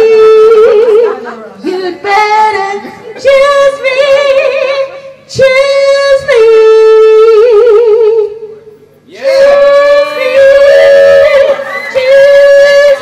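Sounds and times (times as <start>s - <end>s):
woman singing into microphone: 0.0s - 8.4s, 9.3s - 13.0s.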